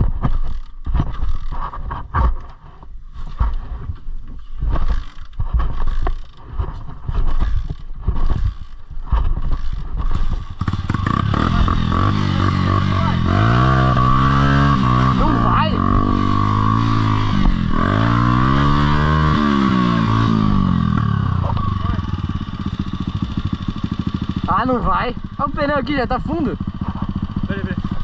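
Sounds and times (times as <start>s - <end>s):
handling knocks and rumbling: 0.0s - 28.0s
dirt bike engine revving: 4.6s - 28.0s.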